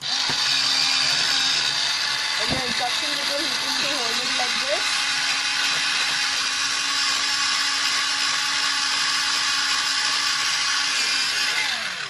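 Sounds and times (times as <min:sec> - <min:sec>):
blades grinding pencil: 0:00.0 - 0:12.0
pencil sharpener motor whine: 0:00.0 - 0:12.0.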